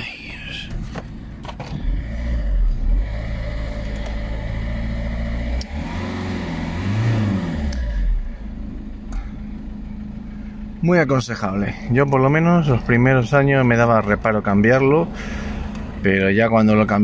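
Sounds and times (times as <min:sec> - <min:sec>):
diesel engine idling and revving: 0:00.0 - 0:17.0.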